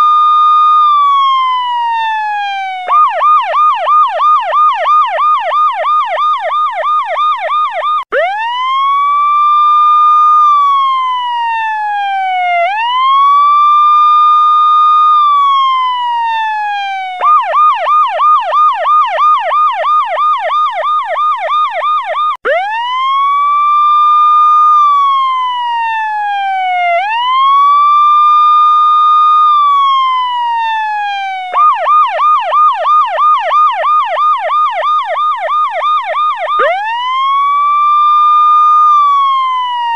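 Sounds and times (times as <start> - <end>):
electronic siren yelp and wail: 0.0 - 39.9.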